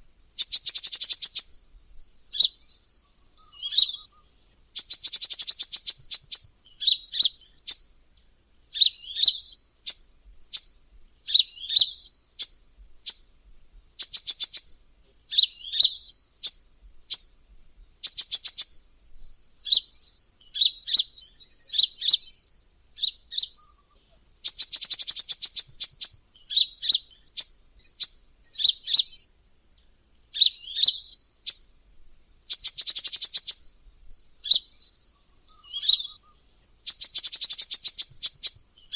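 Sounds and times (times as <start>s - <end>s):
bird twittering chirps: 0.0s - 38.9s
rapid bird trill: 0.0s - 38.9s.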